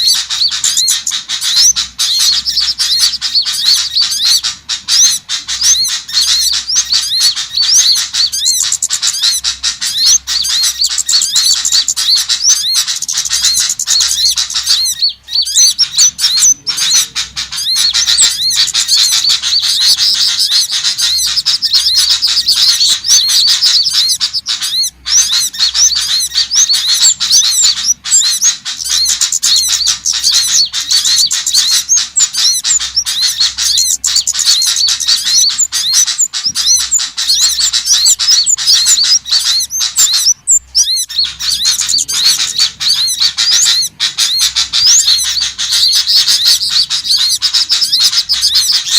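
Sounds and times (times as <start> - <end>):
songbirds chirping and twittering: 0.0 - 48.9.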